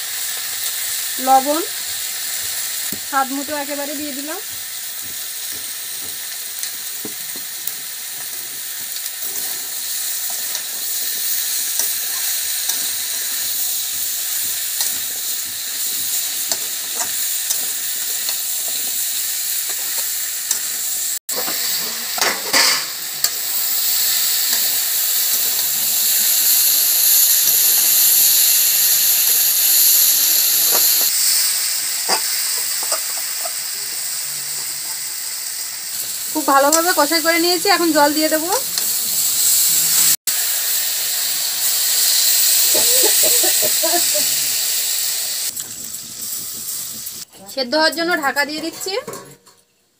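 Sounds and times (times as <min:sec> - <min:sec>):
food sizzling in hot oil: 0:00.0 - 0:49.2.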